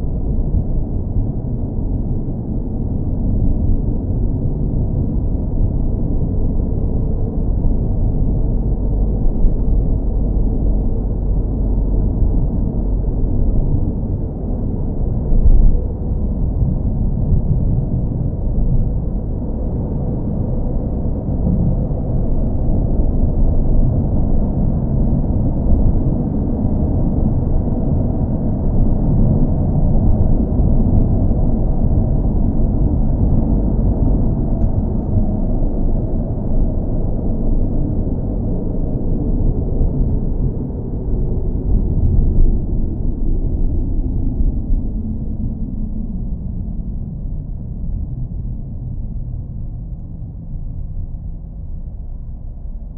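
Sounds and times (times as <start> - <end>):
car engine drone: 0.0 - 52.9
road rumble: 0.0 - 52.9.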